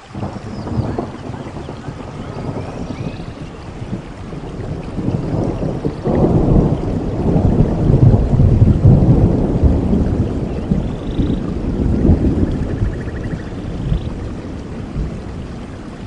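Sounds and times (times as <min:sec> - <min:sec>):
rolling thunder: 0:00.0 - 0:16.0
steady rain: 0:00.0 - 0:16.0.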